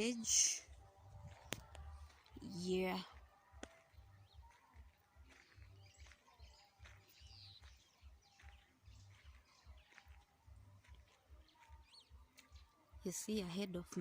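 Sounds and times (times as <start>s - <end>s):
faint bird chirps: 0.0s - 13.1s.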